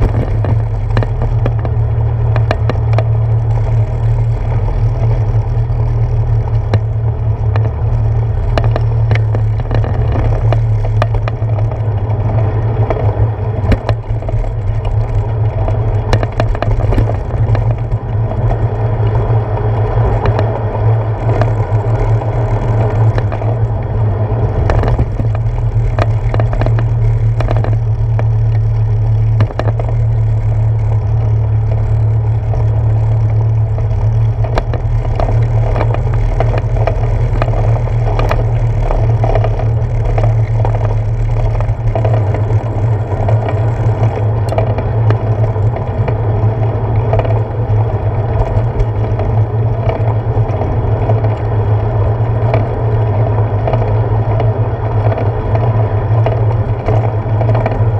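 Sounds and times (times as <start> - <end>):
tyres clicking over wooden planks: 0.0 - 23.9, 24.5 - 57.9
low rumble of wind: 0.0 - 57.9.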